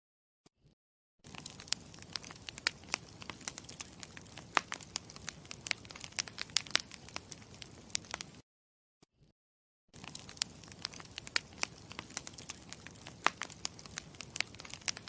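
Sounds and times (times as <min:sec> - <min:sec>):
campfire crackling: 0:01.3 - 0:08.4, 0:10.0 - 0:15.0.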